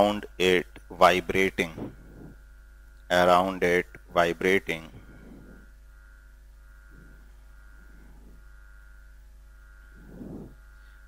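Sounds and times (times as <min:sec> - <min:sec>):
electrical mains hum: 0:00.0 - 0:11.0
faint high steady tone: 0:00.0 - 0:11.0
faint soft sounds: 0:00.8 - 0:03.1, 0:03.9 - 0:11.0.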